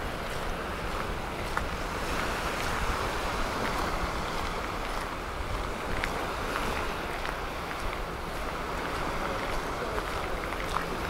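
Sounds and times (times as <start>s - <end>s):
water rushing: 0.0s - 11.0s
wind buffeting microphone: 0.0s - 11.0s.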